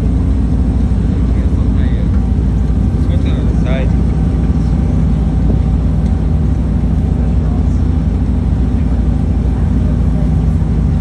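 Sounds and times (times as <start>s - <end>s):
ferry engine drone: 0.0s - 11.0s
wind and water rushing: 0.0s - 11.0s.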